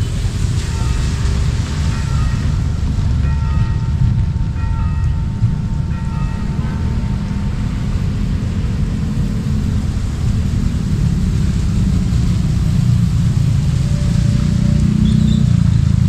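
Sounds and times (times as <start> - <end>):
passing vehicles rumble: 0.0 - 16.0.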